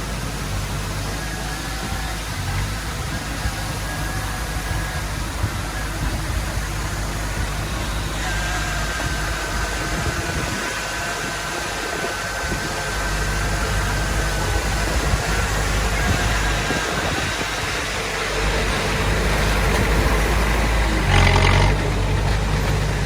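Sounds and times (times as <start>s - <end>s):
diesel engine low rumble: 0.0s - 23.0s
thin high whine: 0.0s - 23.0s.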